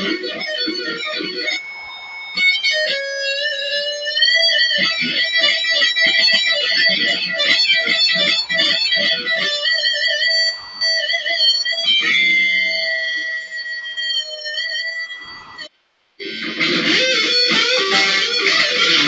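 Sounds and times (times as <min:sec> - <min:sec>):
electric guitar shredding: 0:00.0 - 0:19.0.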